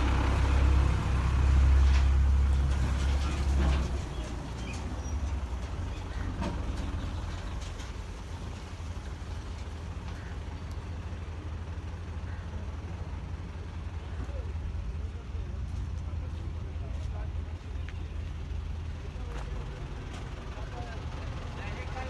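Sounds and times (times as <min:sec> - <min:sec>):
tractor diesel engine rumbling: 0:00.0 - 0:22.0.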